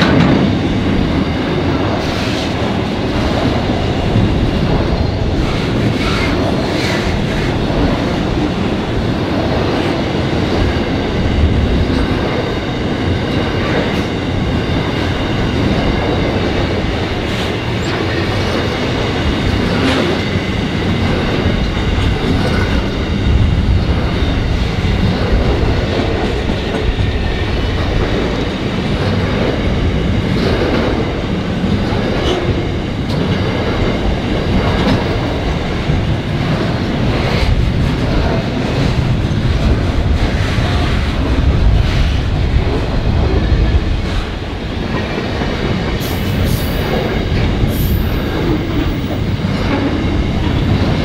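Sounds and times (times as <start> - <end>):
rail clacks: 0.0 - 51.0
train wheels rumbling: 0.0 - 51.0.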